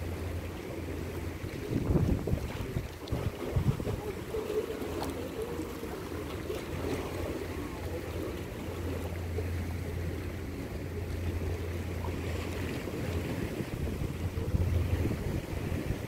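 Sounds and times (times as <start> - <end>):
boat engine drone: 0.0 - 16.0
wind and water hiss: 0.0 - 16.0.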